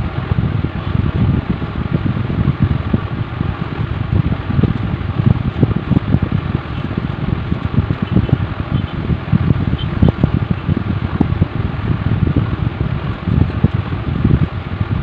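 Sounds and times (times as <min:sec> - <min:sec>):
fan air buffeting microphone: 0:00.0 - 0:15.0.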